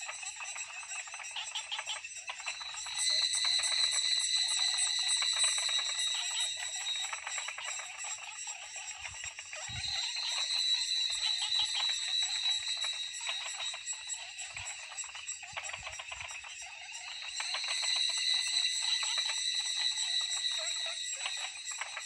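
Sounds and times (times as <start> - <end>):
high-pitched insect drone: 0.0 - 22.0
rapid clicking frog calls: 0.0 - 22.0.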